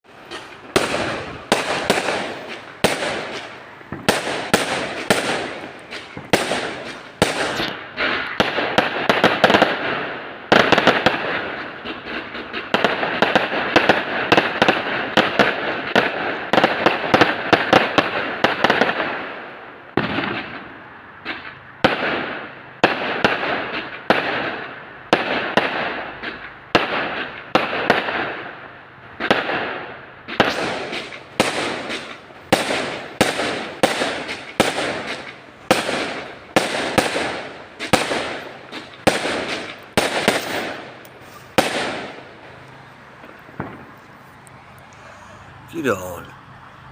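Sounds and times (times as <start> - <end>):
fireworks crackling: 0.0 - 46.9
fireworks bangs: 0.1 - 28.6, 29.2 - 46.3.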